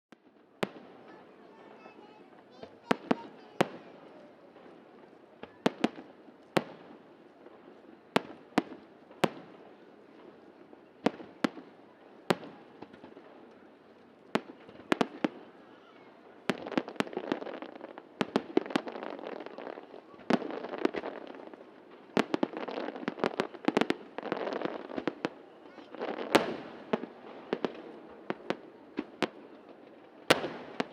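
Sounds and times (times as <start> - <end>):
firework crackling: 0.6 - 30.9.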